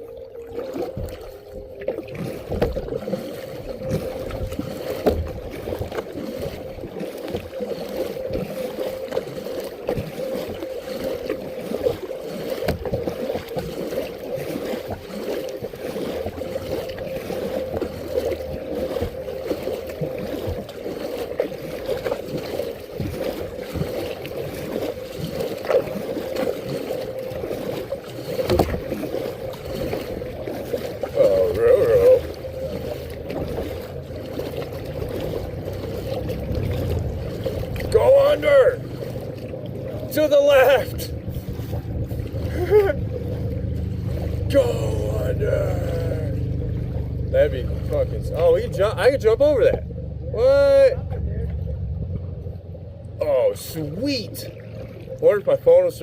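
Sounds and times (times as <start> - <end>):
steady hum: 0.0 - 56.0
water sloshing against kayak: 0.0 - 56.0.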